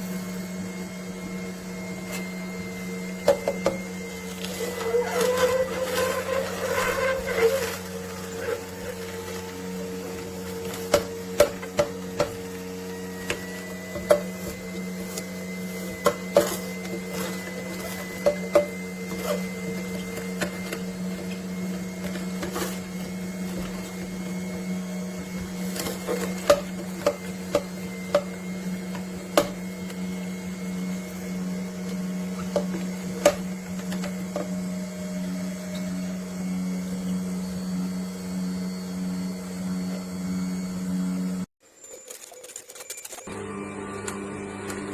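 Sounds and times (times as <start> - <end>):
juicer motor hum: 0.0 - 42.0, 43.2 - 44.9.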